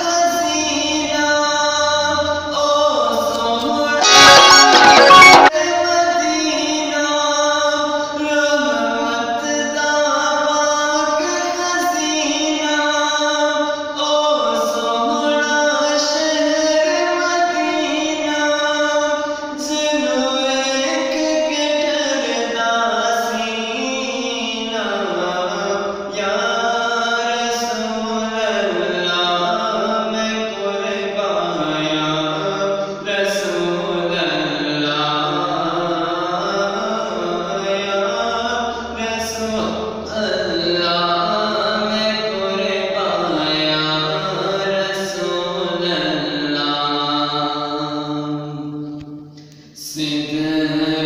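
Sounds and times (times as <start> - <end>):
young man singing slow melody: 0.0 - 48.6, 49.5 - 51.0.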